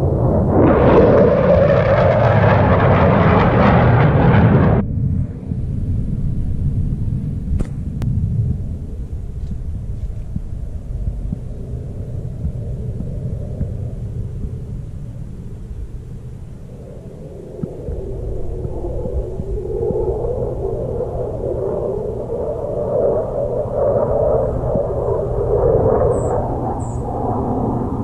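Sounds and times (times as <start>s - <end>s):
airplane noise: 0.0s - 28.0s
distant aircraft engines rumbling: 0.0s - 28.0s.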